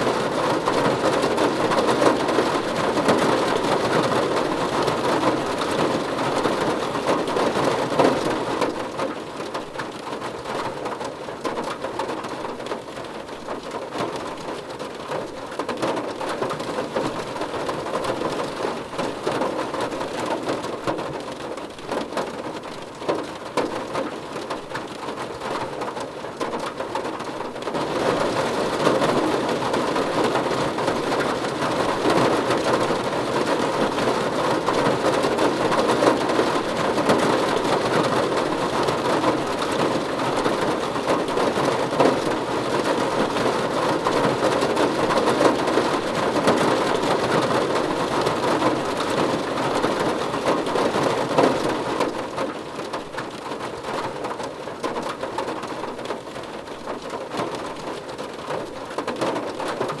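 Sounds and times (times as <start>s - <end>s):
heavy rain patter: 0.0s - 60.0s.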